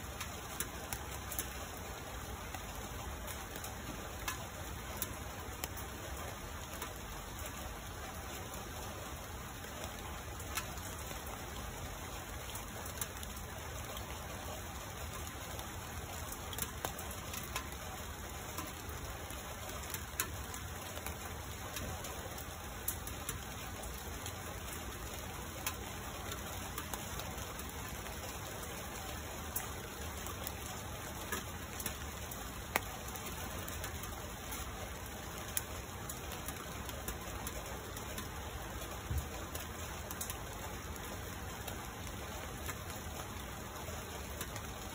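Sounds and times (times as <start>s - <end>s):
rain falling on leaves: 0.0s - 44.9s
raindrops ticking: 0.0s - 44.9s.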